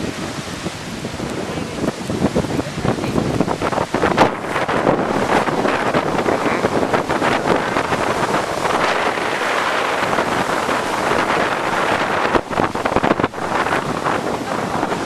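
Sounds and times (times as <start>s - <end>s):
strong wind on microphone: 0.0s - 15.0s
surf: 0.0s - 15.0s.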